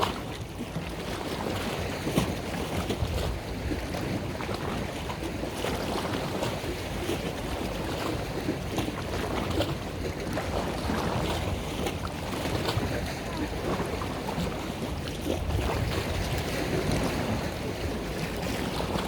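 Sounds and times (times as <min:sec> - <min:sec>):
boat engine rumble: 0:00.0 - 0:19.0
water splashing: 0:00.0 - 0:19.0
wind on microphone: 0:00.0 - 0:19.0.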